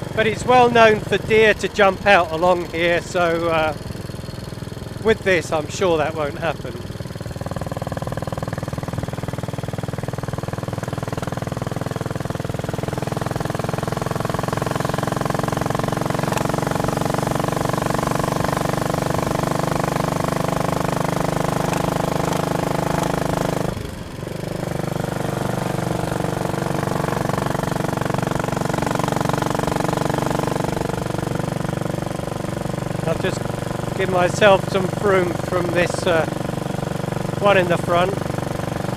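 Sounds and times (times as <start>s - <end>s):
motorcycle engine pulling: 0.0s - 38.9s.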